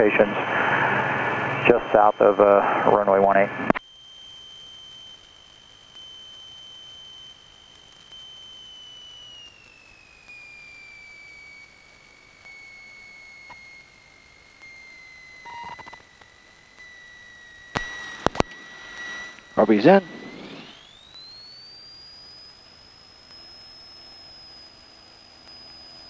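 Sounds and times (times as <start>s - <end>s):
faint crackle: 0.0s - 26.0s
high-pitched intercom whine: 0.0s - 26.0s.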